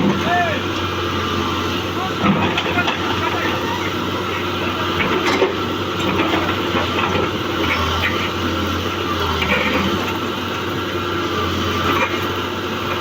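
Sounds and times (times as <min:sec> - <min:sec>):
excavator engine humming: 0:00.0 - 0:13.0.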